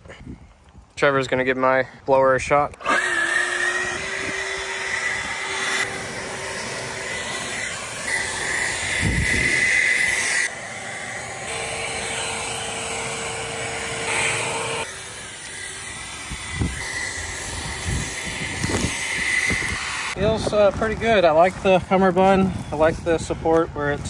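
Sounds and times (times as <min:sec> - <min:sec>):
leaf blower running: 0:02.7 - 0:22.8.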